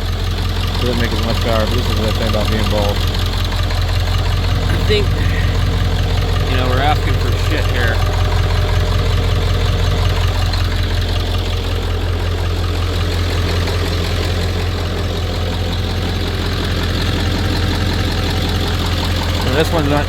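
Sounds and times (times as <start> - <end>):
pickup engine idling: 0.0 - 20.0.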